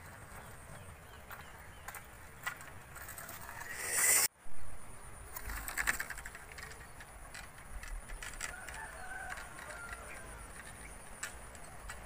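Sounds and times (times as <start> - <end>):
quiet outdoor background noise: 0.0 - 12.0.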